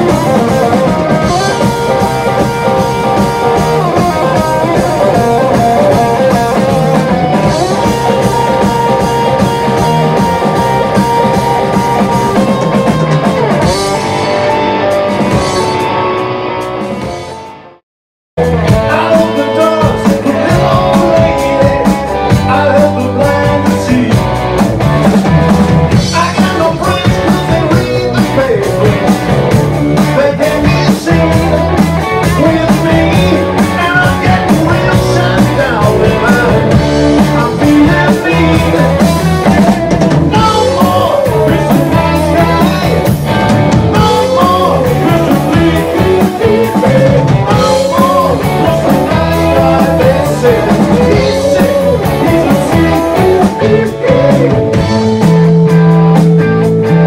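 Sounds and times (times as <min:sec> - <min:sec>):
man singing lead vocals: 0:00.0 - 0:13.9, 0:18.4 - 0:24.6, 0:25.9 - 0:55.7
drum kit steady beat: 0:00.0 - 0:17.3, 0:18.4 - 0:57.0
bass guitar: 0:00.0 - 0:17.8, 0:18.4 - 0:57.0
electric guitar: 0:00.0 - 0:17.8, 0:18.4 - 0:57.0.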